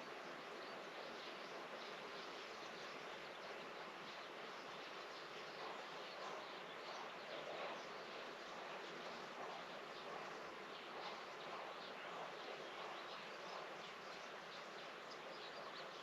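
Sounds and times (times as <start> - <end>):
faint garden ambience hiss: 0.0 - 16.0.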